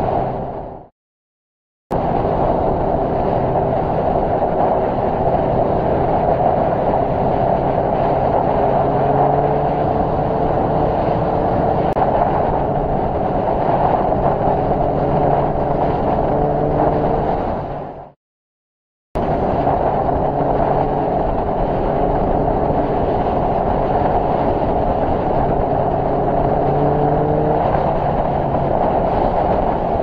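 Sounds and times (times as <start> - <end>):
road rush: 0.0 - 0.9, 1.9 - 18.2, 19.2 - 30.0
wind noise: 0.0 - 0.9, 1.9 - 18.2, 19.2 - 30.0
motorcycle engine drone: 1.9 - 18.2, 19.2 - 30.0.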